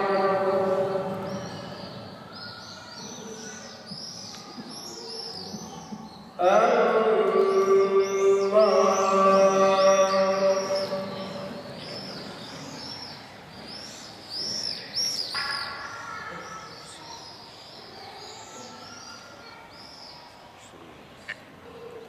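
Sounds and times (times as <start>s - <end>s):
small birds chirping: 0.0s - 6.4s, 7.4s - 22.0s.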